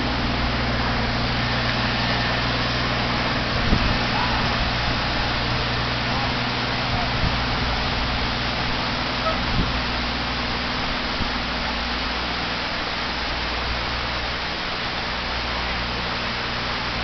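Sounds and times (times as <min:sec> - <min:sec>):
low hum: 0:00.0 - 0:17.0
steady hiss: 0:00.0 - 0:17.0.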